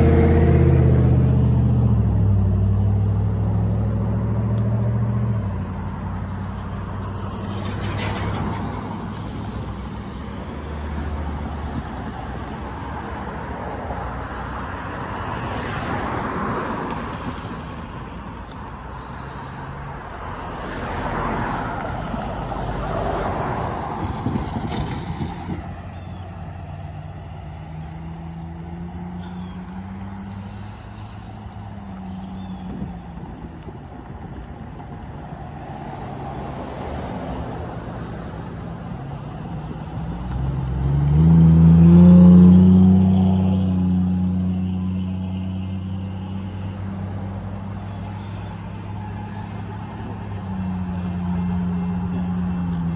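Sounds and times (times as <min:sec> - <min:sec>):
cars passing: 0:00.0 - 0:52.9.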